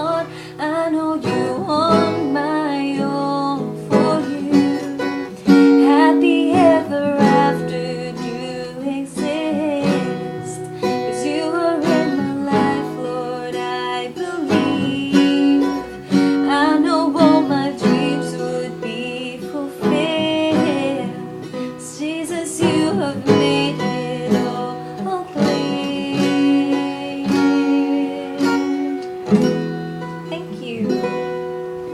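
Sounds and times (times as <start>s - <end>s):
person singing: 0.0s - 29.2s, 30.3s - 31.2s
acoustic guitar chords: 0.0s - 31.9s.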